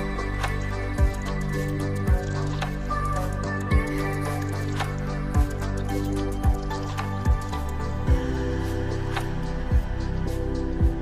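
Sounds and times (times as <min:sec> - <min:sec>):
background music with soft beat: 0:00.0 - 0:11.0.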